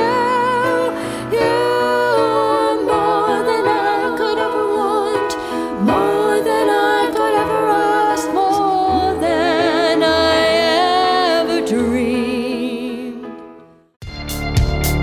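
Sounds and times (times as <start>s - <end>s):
person singing with vibrato: 0.0s - 13.3s.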